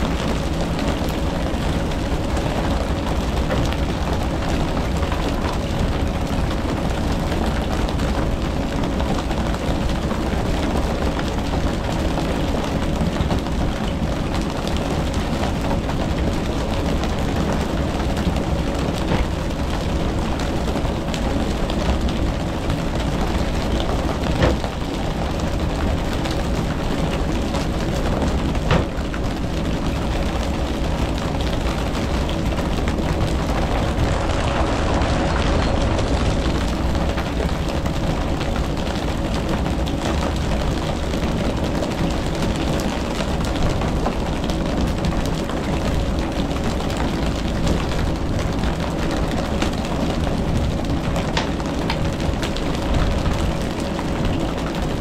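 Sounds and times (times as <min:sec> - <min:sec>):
boat engine running: 0:00.0 - 0:55.0
water wash: 0:00.0 - 0:55.0.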